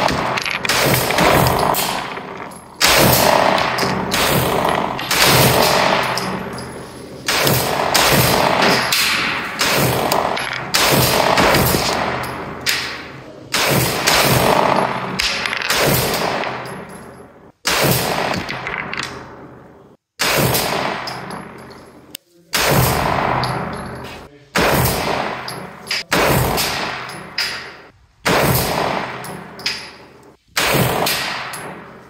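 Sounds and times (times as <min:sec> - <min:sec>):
gunshots echoing: 0:00.0 - 0:21.7, 0:22.5 - 0:32.0.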